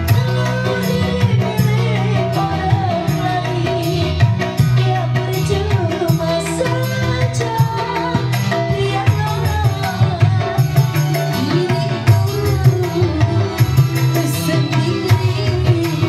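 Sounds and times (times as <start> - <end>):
electronic keyboard: 0.0 - 16.0
hand drums: 0.0 - 16.0
woman singing into a microphone: 0.0 - 16.0.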